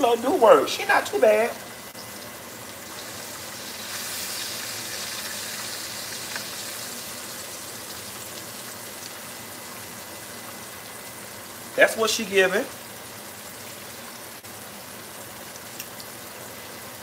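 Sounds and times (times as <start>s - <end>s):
pork chops sizzling in grease: 0.0s - 17.0s.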